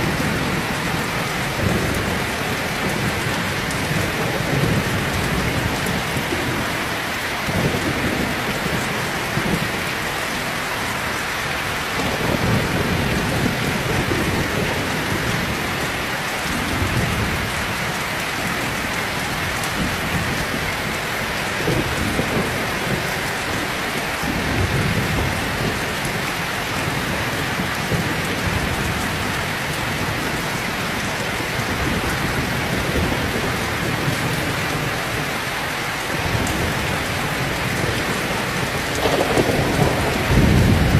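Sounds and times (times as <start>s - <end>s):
low thunder rumbling: 0.0s - 35.4s, 36.1s - 40.9s
heavy rain pouring: 0.0s - 40.9s.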